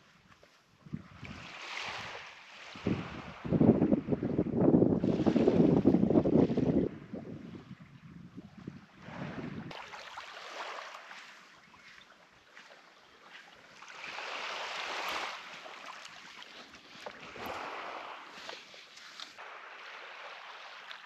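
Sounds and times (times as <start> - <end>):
small waves washing onto shore: 0.0 - 21.0.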